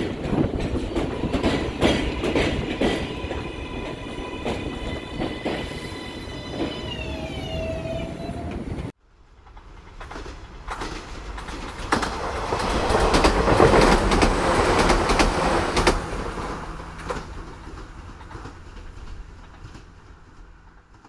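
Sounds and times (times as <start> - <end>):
subway train wheels clacking: 0.0 - 21.0.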